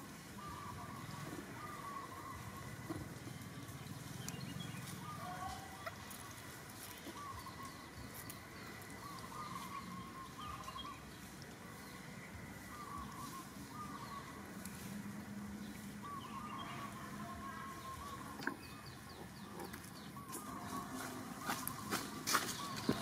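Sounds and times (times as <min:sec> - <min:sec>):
faint wavering animal calls: 0:00.4 - 0:03.7, 0:04.8 - 0:23.0.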